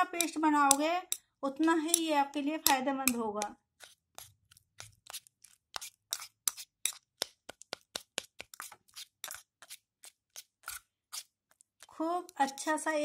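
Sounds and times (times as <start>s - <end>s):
metal spoon scraping a steel bowl: 0.0s - 7.0s, 8.5s - 13.0s.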